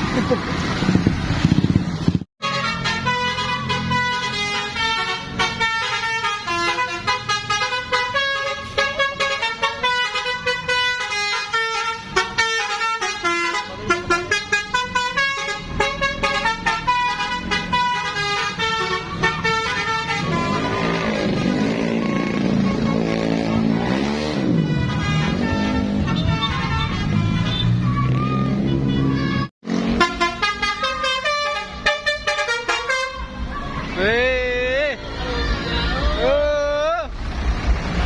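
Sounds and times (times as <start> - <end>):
bus engine rumbling: 0.0 - 38.0
bus horn playing melody: 2.4 - 33.4.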